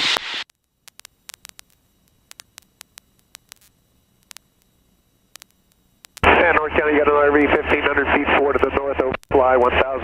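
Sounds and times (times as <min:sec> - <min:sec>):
radio static clicks and crackles: 0:00.0 - 0:10.0.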